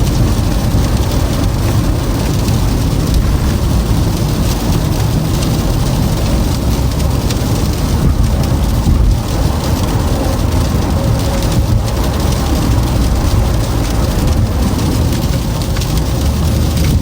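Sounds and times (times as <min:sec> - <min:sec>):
tyres rushing on icy road: 0:00.0 - 0:17.0
wind: 0:00.0 - 0:17.0.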